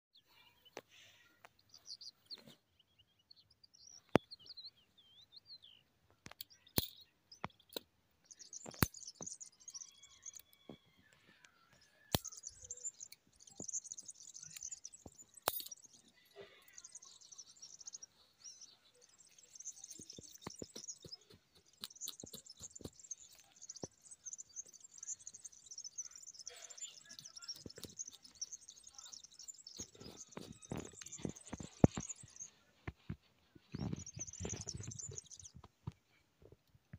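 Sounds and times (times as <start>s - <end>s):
small birds chirping: 0.1s - 36.9s.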